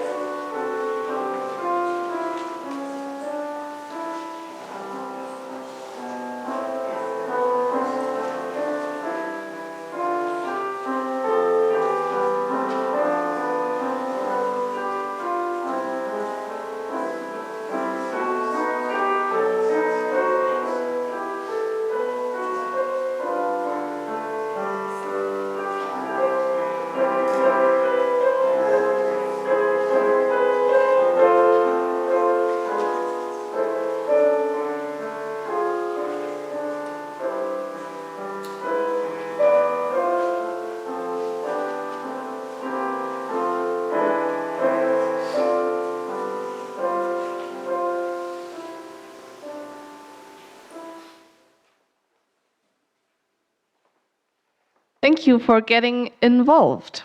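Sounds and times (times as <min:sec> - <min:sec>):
slow instrumental keyboard music: 0:00.0 - 0:51.5.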